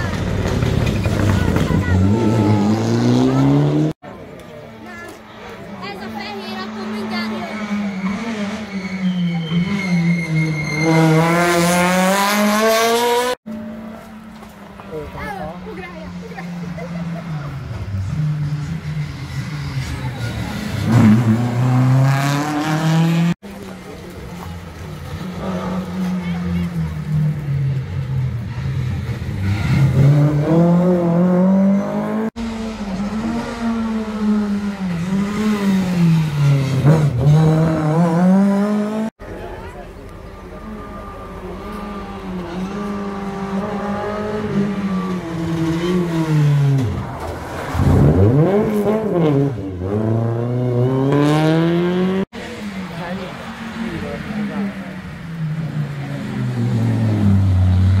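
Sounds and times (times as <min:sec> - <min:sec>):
rally car engine accelerating: 0:06.8 - 0:13.9, 0:16.5 - 0:23.4, 0:24.3 - 0:39.1, 0:40.4 - 0:58.0.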